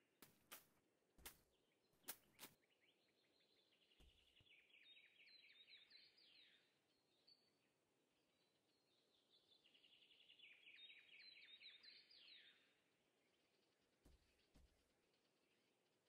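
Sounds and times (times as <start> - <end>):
small bird singing: 0.3 - 16.0.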